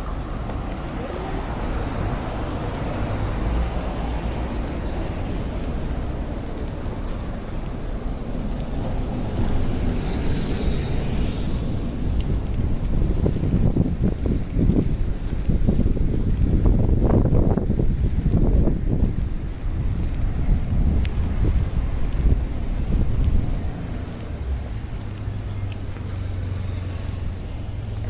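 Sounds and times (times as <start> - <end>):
city traffic rumble: 0.0 - 28.0
wind on microphone: 0.0 - 28.0.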